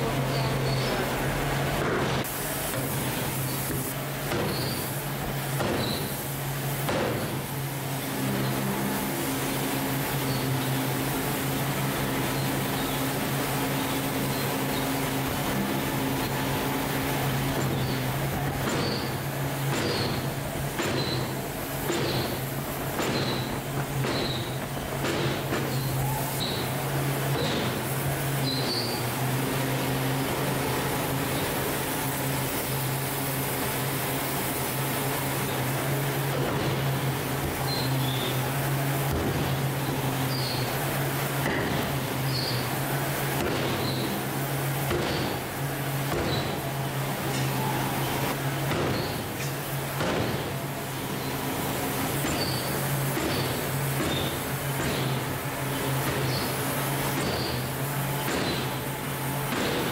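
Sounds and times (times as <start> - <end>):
machinery humming: 0.0 - 59.9
broad hiss: 0.2 - 59.9.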